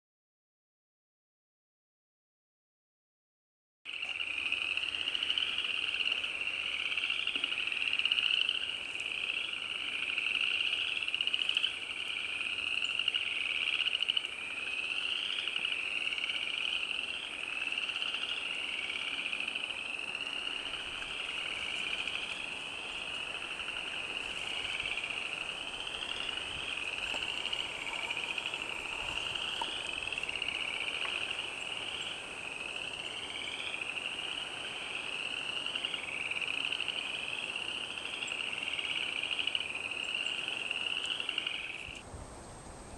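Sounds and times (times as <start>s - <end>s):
frogs calling: 3.9s - 42.0s.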